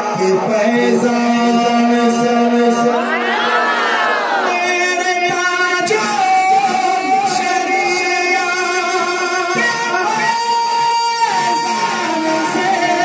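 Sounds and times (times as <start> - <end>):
man singing into microphone: 0.0 - 3.2, 4.4 - 13.0.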